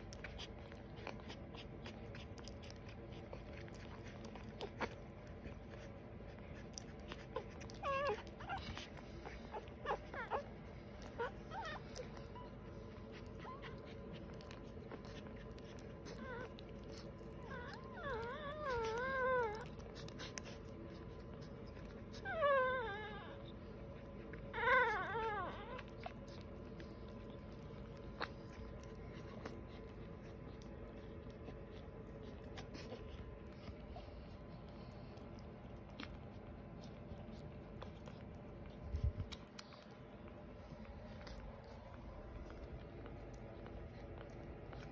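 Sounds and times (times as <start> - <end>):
puppies whimpering: 0.0 - 44.9.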